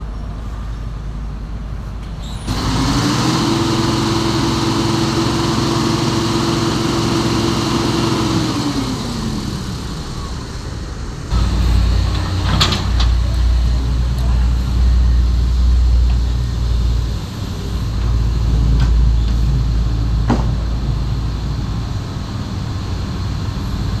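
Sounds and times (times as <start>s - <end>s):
heavy diesel engine running: 2.5s - 24.0s
loud low rumble: 2.5s - 24.0s.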